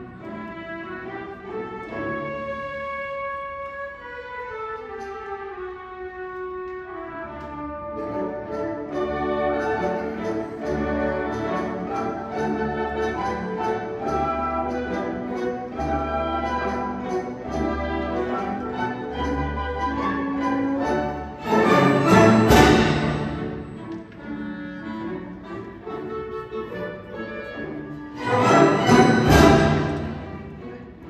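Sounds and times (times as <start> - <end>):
orchestral music with brass: 0.0 - 31.0.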